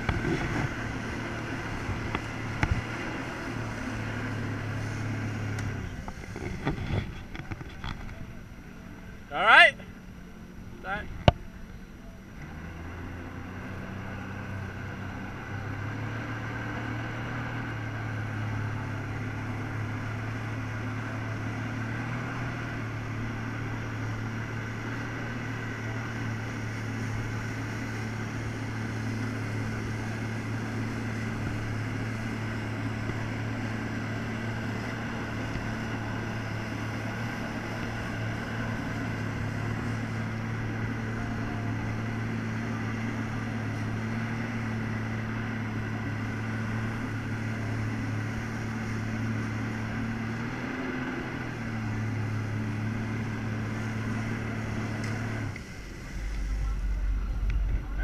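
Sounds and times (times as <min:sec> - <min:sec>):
personal watercraft engine drone: 0:00.0 - 0:58.0.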